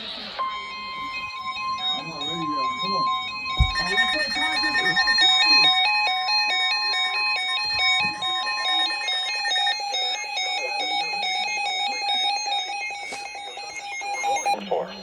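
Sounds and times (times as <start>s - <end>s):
electronic alert tone warbling: 0.0s - 15.0s
rapidly pulsing tone: 0.0s - 15.0s
steady high tone: 0.0s - 15.0s.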